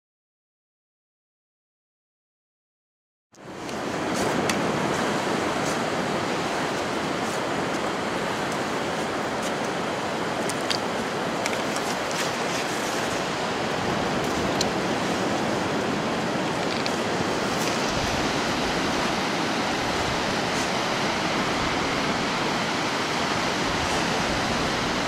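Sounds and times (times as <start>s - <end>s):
surf breaking on a beach: 3.4s - 25.0s.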